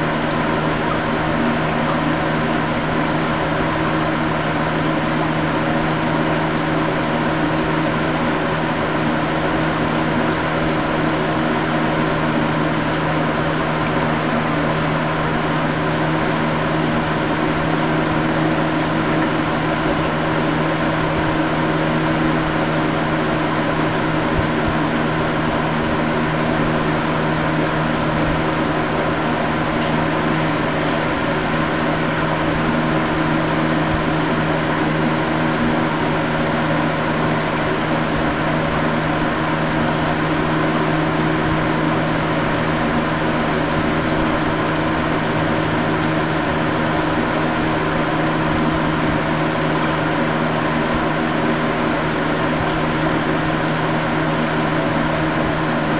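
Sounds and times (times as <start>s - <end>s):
aquarium pump humming: 0.0s - 55.9s.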